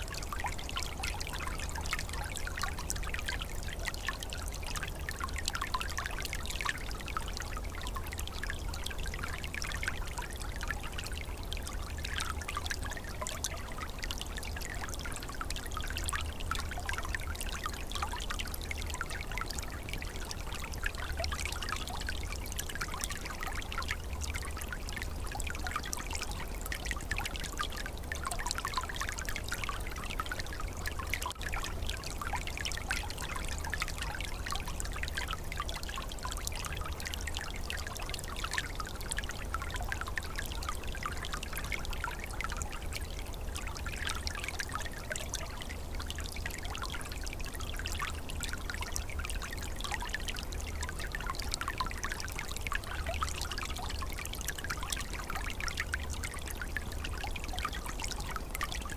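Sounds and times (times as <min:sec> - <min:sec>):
stream trickling and gurgling: 0:00.0 - 0:58.9.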